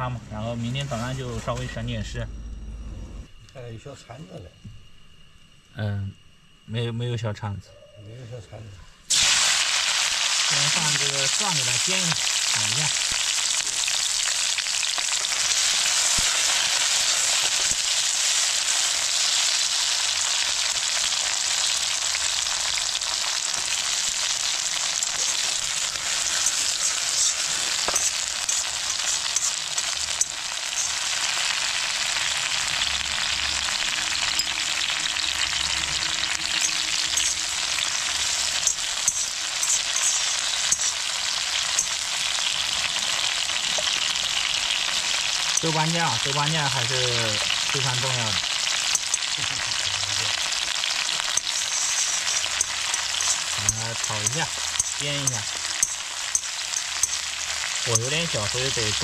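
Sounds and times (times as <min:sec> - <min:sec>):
garlic sizzling in hot oil: 0:09.1 - 0:59.0
oil crackling and popping: 0:09.1 - 0:59.0.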